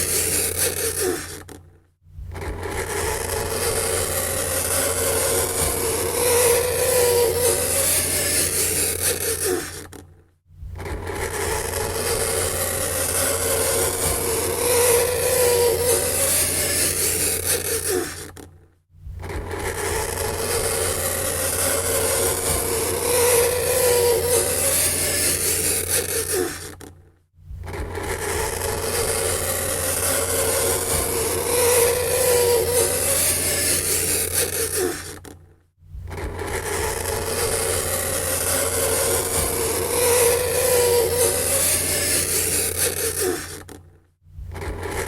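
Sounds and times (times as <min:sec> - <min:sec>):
fingernails scraping chalkboard: 0:02.4 - 0:10.0, 0:10.8 - 0:18.4, 0:19.2 - 0:26.9, 0:27.7 - 0:35.3, 0:36.1 - 0:43.8.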